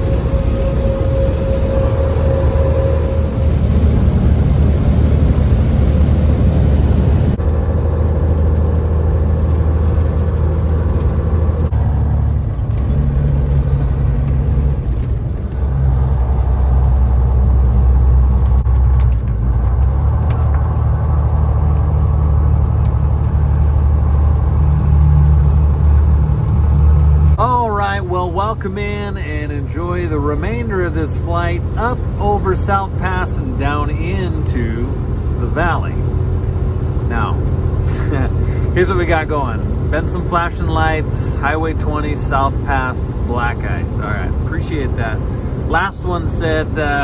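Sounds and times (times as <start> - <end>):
truck diesel engine drone: 0.0 - 47.0.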